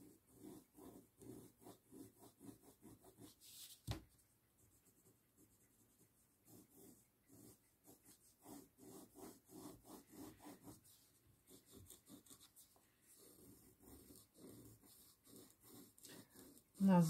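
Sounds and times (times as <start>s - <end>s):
brush scratching on paper: 0.0s - 3.8s, 4.6s - 17.0s.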